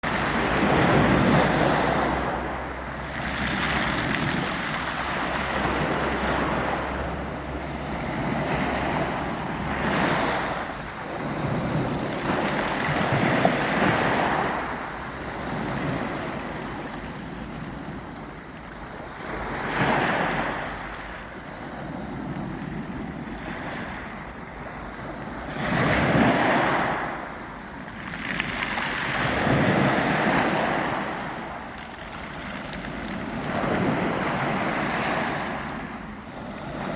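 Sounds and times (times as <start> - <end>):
ocean waves breaking on shore: 0.0 - 36.9
wind on microphone: 0.0 - 36.9.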